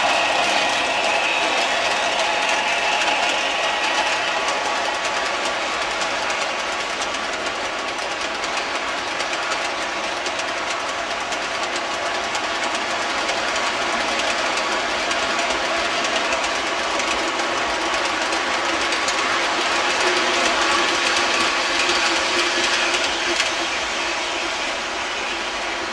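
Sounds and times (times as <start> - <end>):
fine constant clicking: 0.0 - 25.9
model train wheels rumbling: 0.0 - 25.9.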